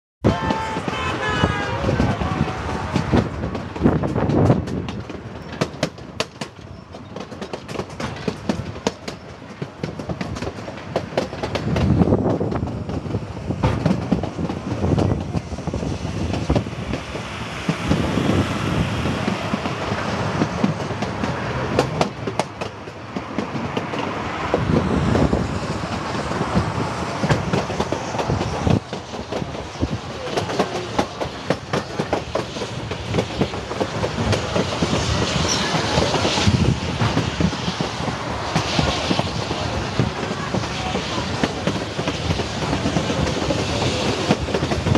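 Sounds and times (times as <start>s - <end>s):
train running noise: 0.2s - 44.9s
train wheels clicking over rail joints: 1.8s - 44.9s.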